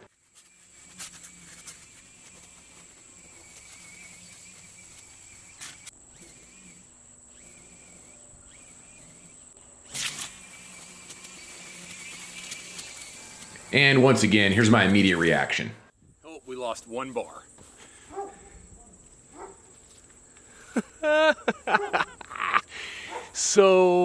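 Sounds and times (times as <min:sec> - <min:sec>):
distant string trimmer whine: 0:00.0 - 0:15.5, 0:16.6 - 0:23.8.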